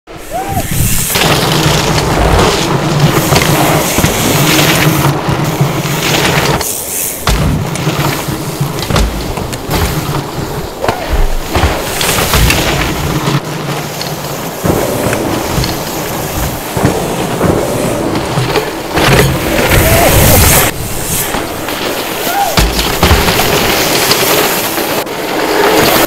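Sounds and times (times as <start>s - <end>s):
knobby tyres rumbling on dirt: 0.1s - 26.0s
bike knocks and clatters: 0.5s - 26.0s.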